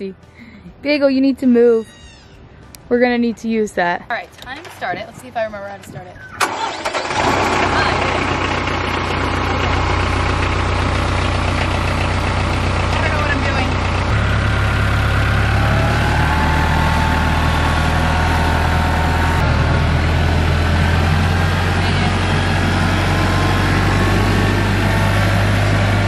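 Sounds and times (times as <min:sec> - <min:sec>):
tractor diesel engine running: 0:04.4 - 0:26.0.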